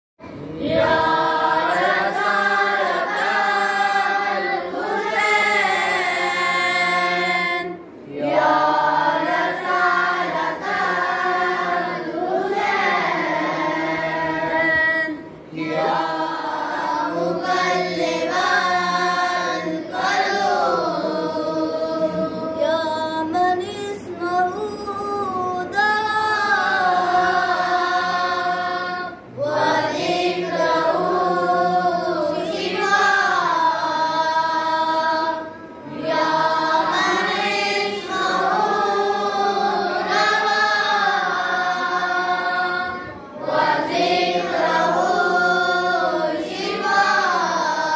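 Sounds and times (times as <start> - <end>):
boys chanting a prayer: 0.2 - 47.9.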